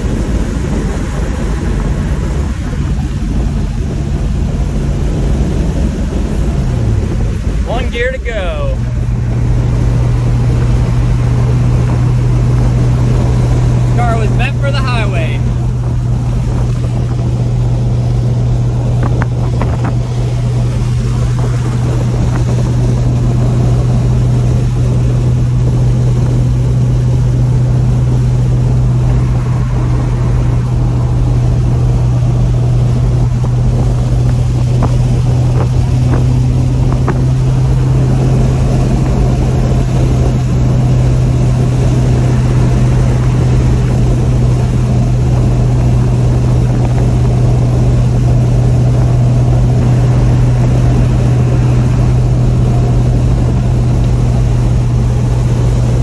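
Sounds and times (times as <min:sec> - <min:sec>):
car engine cruising: 0:00.0 - 0:56.0
road and wind noise: 0:00.0 - 0:56.0.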